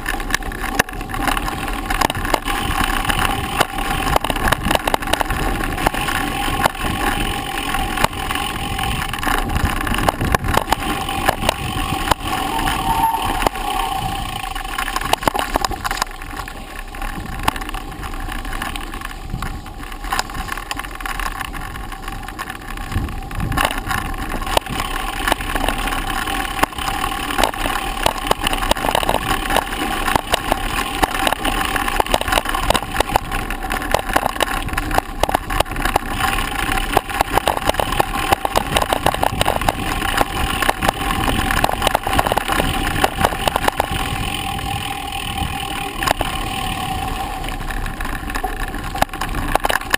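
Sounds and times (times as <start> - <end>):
bike rattling and knocking: 0.0 - 49.9
tyre noise on dirt: 0.0 - 49.9.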